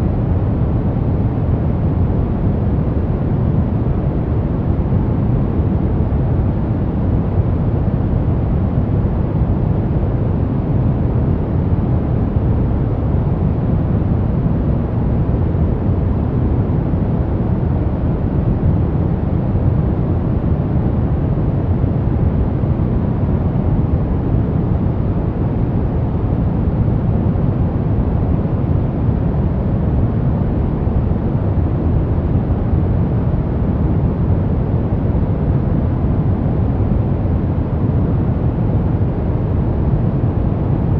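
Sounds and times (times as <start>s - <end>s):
deep rumbling white noise: 0.0s - 40.9s.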